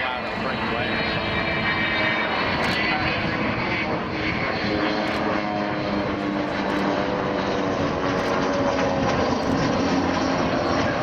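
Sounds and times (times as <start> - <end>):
propeller aircraft droning overhead: 0.0 - 11.0.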